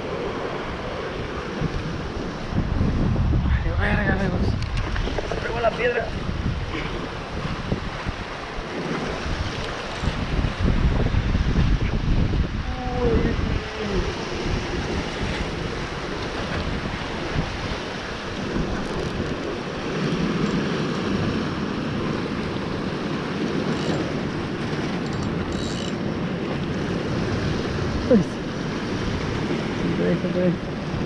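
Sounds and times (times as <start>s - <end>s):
sea washing: 0.0s - 3.2s, 4.3s - 31.0s
wind noise on microphone: 0.0s - 31.0s.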